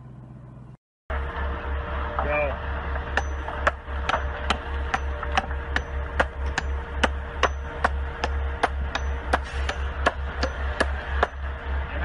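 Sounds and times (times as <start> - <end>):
low pulsing hum: 0.0 - 12.0.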